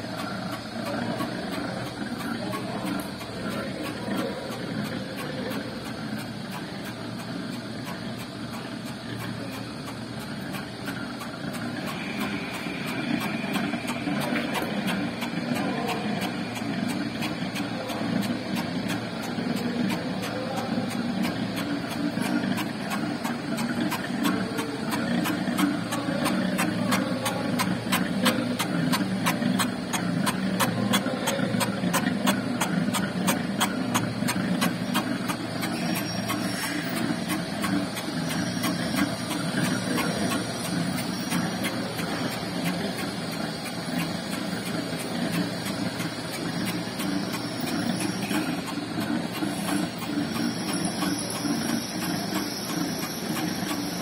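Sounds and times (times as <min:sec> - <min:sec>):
fast even ticking: 0:00.0 - 0:54.0
lathe mechanical hum: 0:00.0 - 0:54.0.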